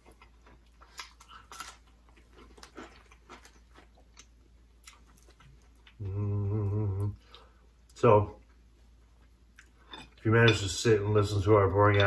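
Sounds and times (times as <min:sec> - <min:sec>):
people chewing pizza: 0:00.0 - 0:10.1.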